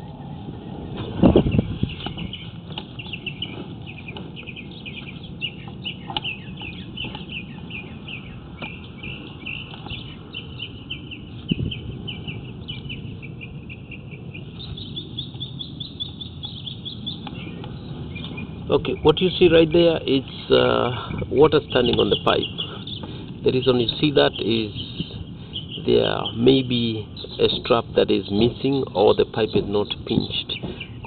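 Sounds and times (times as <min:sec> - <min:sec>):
low background rumble: 0:00.0 - 0:31.0
small birds chirping: 0:00.0 - 0:31.0.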